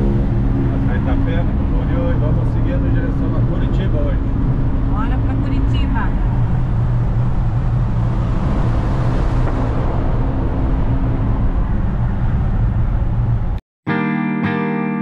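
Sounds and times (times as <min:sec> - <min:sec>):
road noise: 0:00.0 - 0:13.6
van engine drone: 0:00.0 - 0:13.6.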